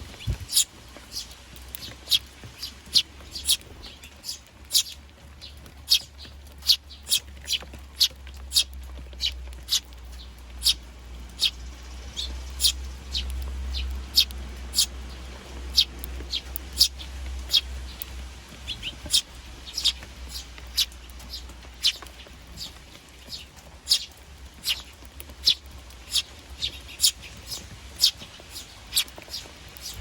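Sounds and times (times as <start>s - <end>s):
sparrows chirping: 0.0s - 30.0s.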